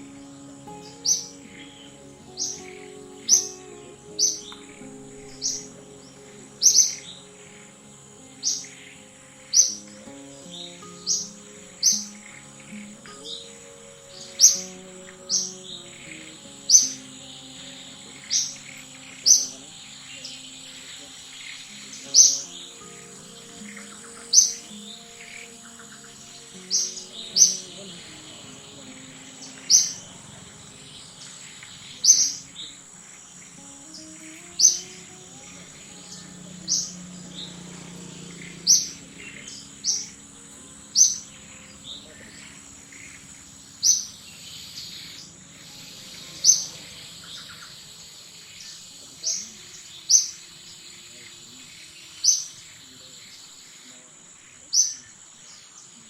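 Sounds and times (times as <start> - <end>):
bird chirping: 0.0 - 56.0
faint background music: 0.0 - 56.0
steady high-pitched whine: 0.0 - 56.0.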